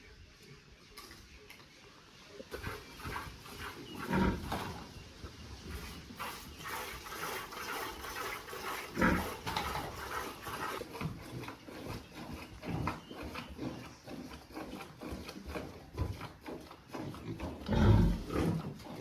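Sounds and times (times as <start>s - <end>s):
farm animal noises: 0.0s - 19.0s.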